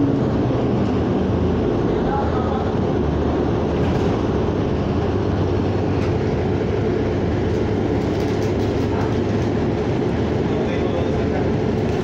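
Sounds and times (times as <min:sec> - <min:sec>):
bus engine and tyre rumble: 0:00.0 - 0:12.0.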